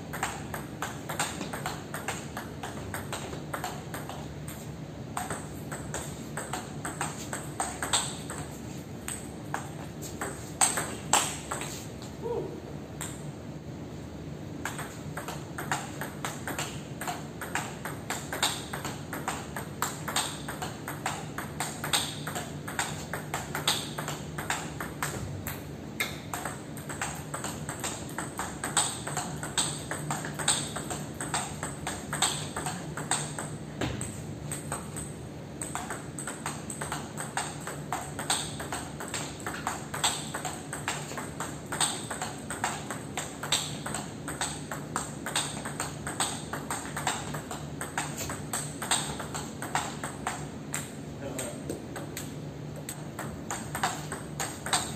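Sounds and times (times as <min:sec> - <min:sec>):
table tennis ball hitting bats: 0:00.0 - 0:11.8, 0:14.6 - 0:54.9
ball bouncing on table: 0:00.1 - 0:04.6, 0:05.2 - 0:11.8, 0:14.6 - 0:54.9.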